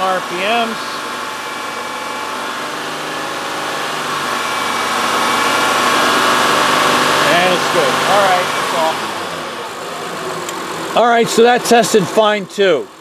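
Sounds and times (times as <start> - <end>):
car engine running at raised revs: 0.0 - 13.0.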